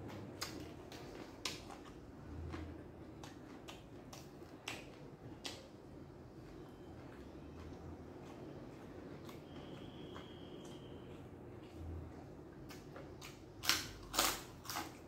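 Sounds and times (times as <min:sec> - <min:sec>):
person chewing crunchy food: 0:00.0 - 0:05.8, 0:07.0 - 0:15.0.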